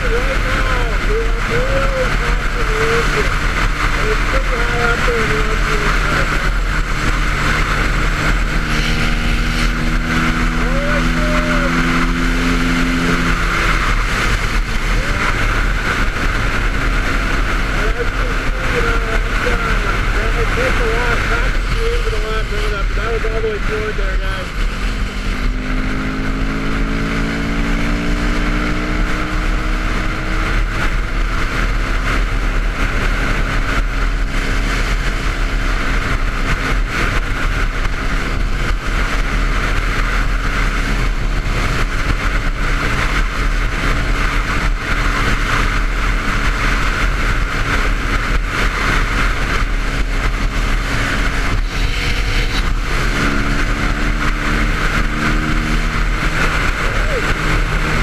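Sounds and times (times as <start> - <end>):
gear change: 0.0 - 58.0
motorcycle engine at speed: 0.0 - 58.0
wind rush: 0.0 - 58.0.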